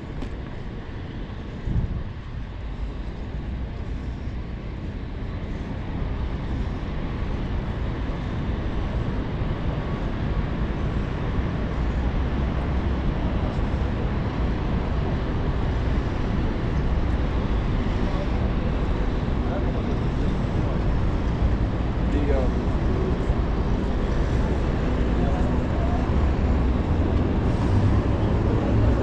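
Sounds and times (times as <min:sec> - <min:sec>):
city street traffic: 0:00.0 - 0:29.0
wind buffeting microphone: 0:00.0 - 0:29.0.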